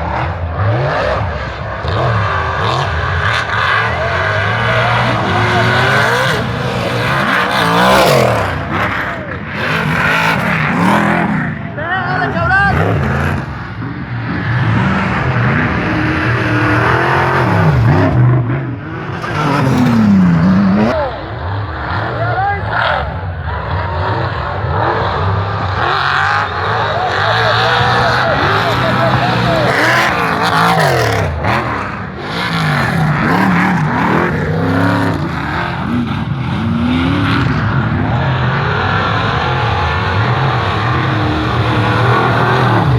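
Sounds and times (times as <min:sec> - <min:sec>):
race vehicle engines revving: 0:00.0 - 0:42.9.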